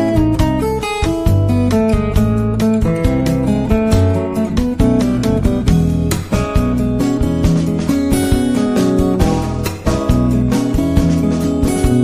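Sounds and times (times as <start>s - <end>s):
guitar plucked and strummed: 0.0s - 12.0s.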